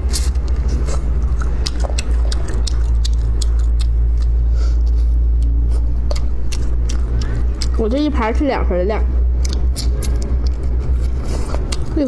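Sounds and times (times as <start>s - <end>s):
wet chewing and mouth clicks: 0.0s - 8.4s, 9.2s - 12.0s
loud steady low hum: 0.0s - 12.0s.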